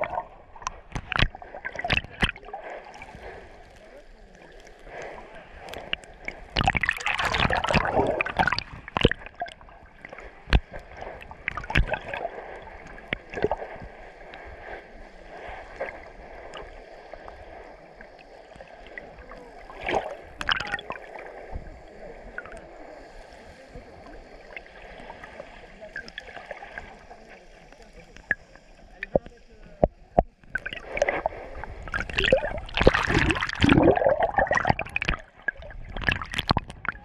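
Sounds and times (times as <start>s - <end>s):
clicks and knocks underwater: 0.0s - 22.7s, 24.2s - 37.0s
muffled underwater noise: 0.0s - 37.0s
water sloshing and gurgling: 0.0s - 37.0s.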